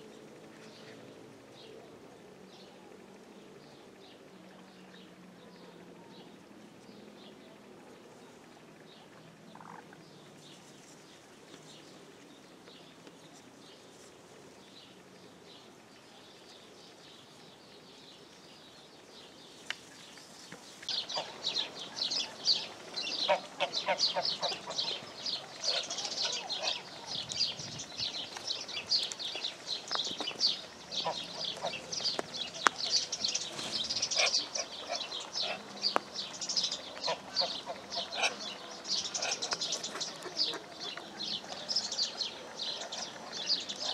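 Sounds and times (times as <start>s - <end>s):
small birds chirping: 8.2s - 43.9s.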